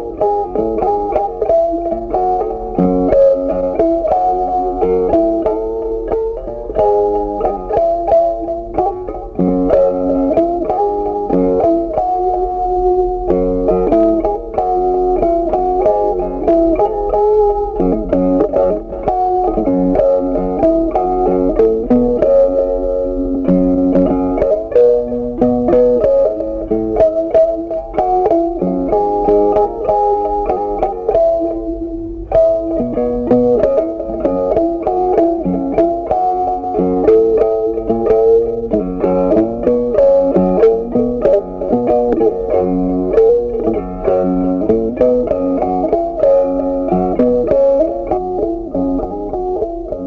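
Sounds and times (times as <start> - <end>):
plucked string instrumental music: 0.0 - 50.0.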